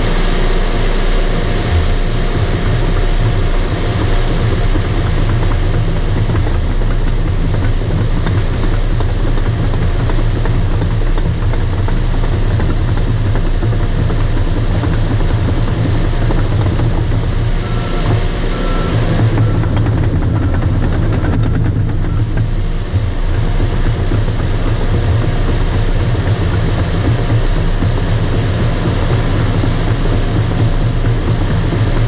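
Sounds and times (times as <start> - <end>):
bulldozer diesel engine running: 0.0 - 32.0
tracks clanking: 0.0 - 32.0.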